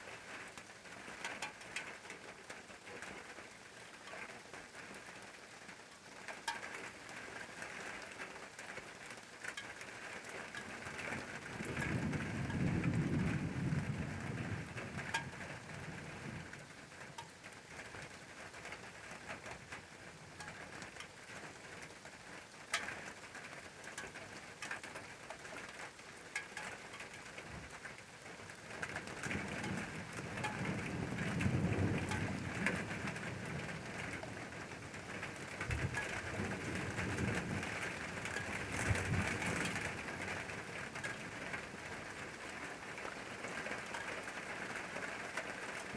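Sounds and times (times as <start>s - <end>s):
steady rain falling: 0.0s - 45.9s
sharp raindrop ticks: 0.2s - 45.9s.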